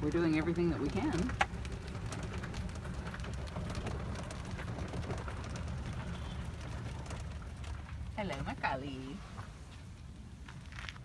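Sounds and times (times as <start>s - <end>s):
cart rolling on gravel: 0.0s - 11.0s.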